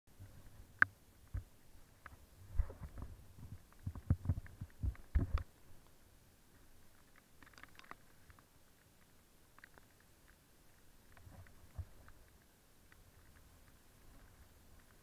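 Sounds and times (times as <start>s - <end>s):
rain thumping on a camera: 0.1s - 15.0s.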